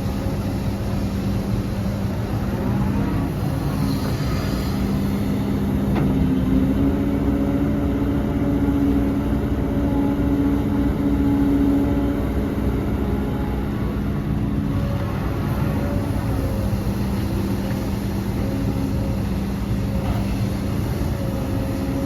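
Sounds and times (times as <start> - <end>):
heavy diesel machinery engine: 0.0 - 22.0.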